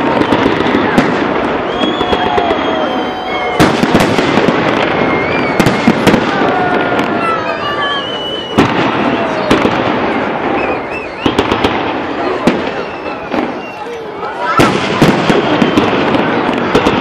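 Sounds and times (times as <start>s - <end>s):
fireworks bursting bangs: 0.0s - 17.0s
fireworks crackling: 0.0s - 17.0s.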